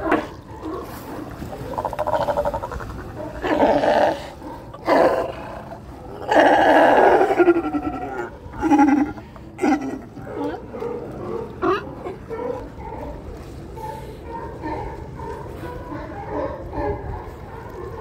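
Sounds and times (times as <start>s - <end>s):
sea lions barking: 0.0s - 18.0s.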